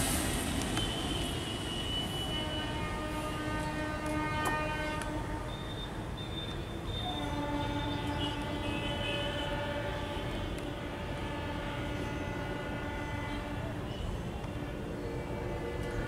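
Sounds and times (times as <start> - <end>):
train rumble on tracks: 0.0 - 16.0
train horn: 0.7 - 5.9, 6.9 - 14.0, 14.6 - 16.0.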